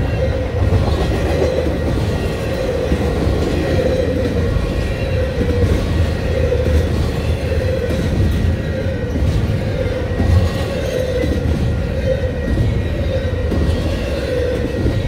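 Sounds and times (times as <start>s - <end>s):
steel train wheels on rails: 0.0s - 15.0s.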